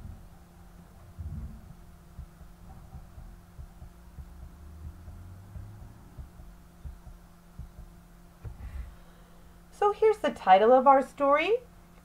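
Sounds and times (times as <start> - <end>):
soft low thumps: 0.0 - 9.7
low steady hum: 0.0 - 12.0.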